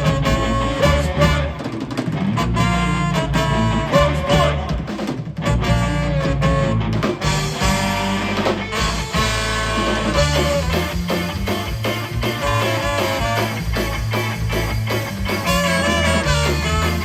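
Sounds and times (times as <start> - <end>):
bass guitar: 0.0 - 17.0
drum kit: 0.0 - 17.0
electric guitar lead: 0.0 - 17.0.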